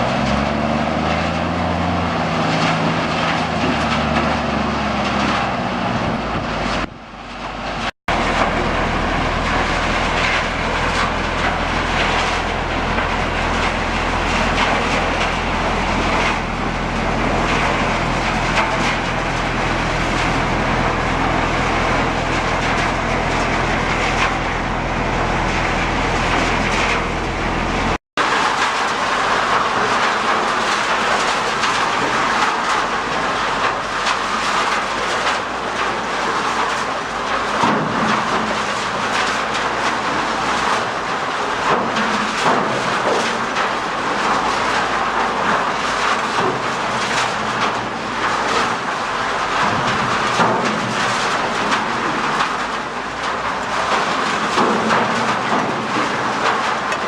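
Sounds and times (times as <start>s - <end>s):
material clattering in rotating drum: 0.0s - 57.0s
steady machine drone: 0.0s - 57.0s.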